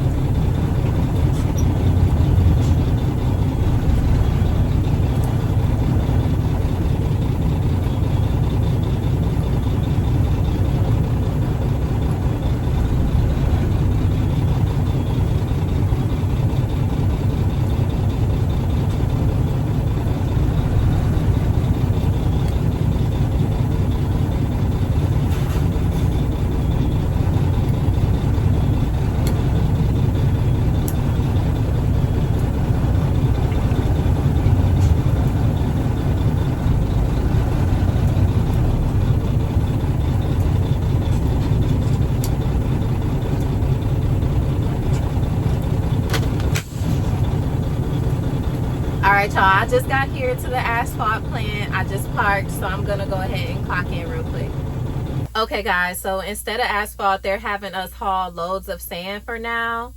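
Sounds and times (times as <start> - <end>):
diesel truck engine rumbling: 0.0 - 59.9.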